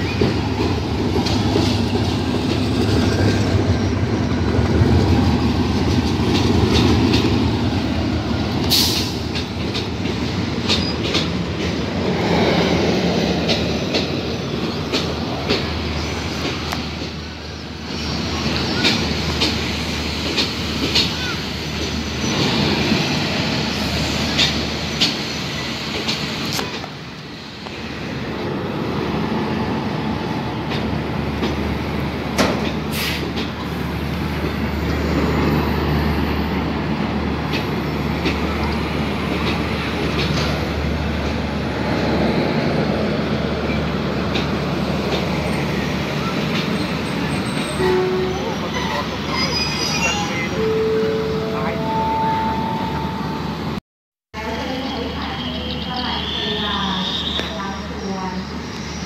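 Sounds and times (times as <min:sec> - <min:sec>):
train coaches rumbling: 0:00.0 - 0:53.8, 0:54.4 - 0:59.0.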